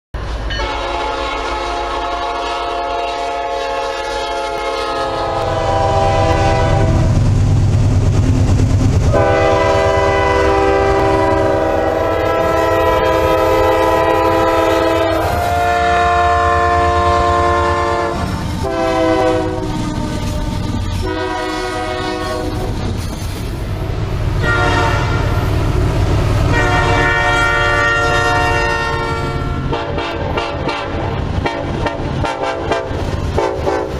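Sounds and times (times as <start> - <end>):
locomotive and freight cars rumbling: 0.2 - 33.9
locomotive air horn blasts: 0.5 - 7.2, 9.1 - 22.8, 24.4 - 25.5, 26.5 - 33.9.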